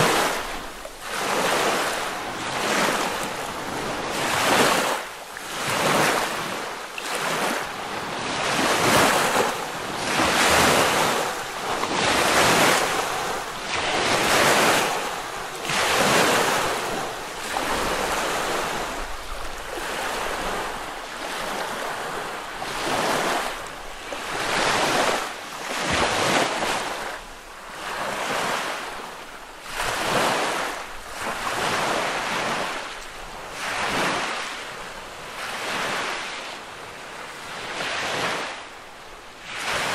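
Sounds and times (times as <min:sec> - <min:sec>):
lake waves breaking on beach: 0:00.0 - 0:39.9.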